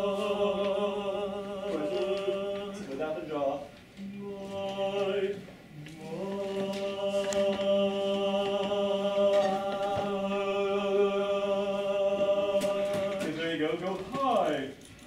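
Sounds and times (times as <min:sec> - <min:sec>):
chorus singing held notes: 0:00.0 - 0:14.5.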